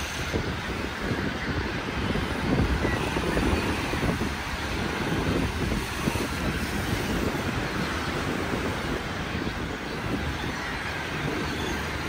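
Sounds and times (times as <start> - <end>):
choppy sea rushing: 0.0 - 12.0
wind buffeting microphone: 0.0 - 12.0.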